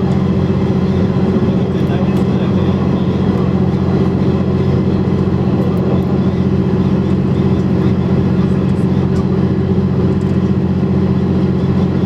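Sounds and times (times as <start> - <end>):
diesel railcar engine drone: 0.0 - 12.0.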